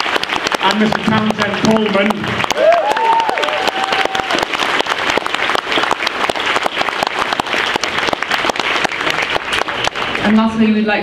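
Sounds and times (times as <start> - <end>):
large audience applauding: 0.0 - 10.4.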